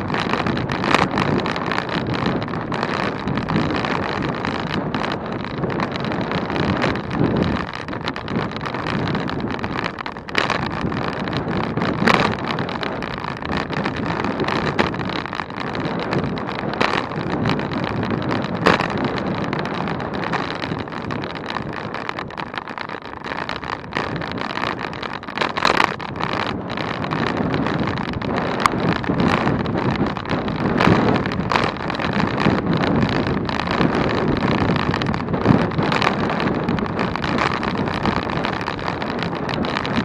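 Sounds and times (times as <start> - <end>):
road noise: 0.0 - 40.0
wind on microphone: 0.0 - 40.0.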